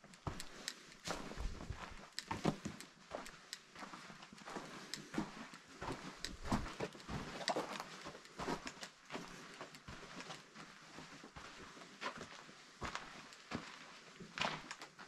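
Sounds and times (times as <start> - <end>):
footsteps on a trail: 0.0 - 14.8.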